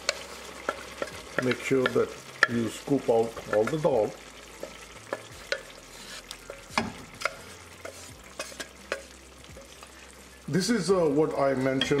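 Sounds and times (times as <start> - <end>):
wooden spatula scraping a pot: 0.0 - 9.8
faint sizzle in a pan: 0.0 - 12.0.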